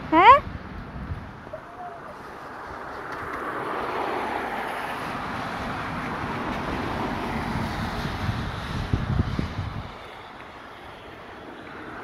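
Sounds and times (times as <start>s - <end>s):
traffic on wet street: 0.0s - 12.0s.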